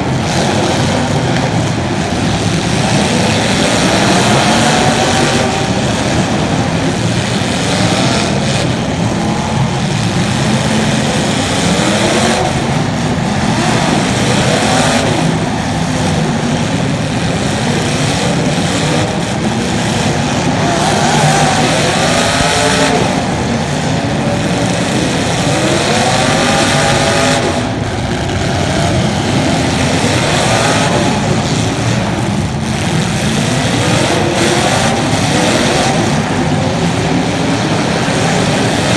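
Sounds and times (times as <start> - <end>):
racing engines revving: 0.0 - 38.9.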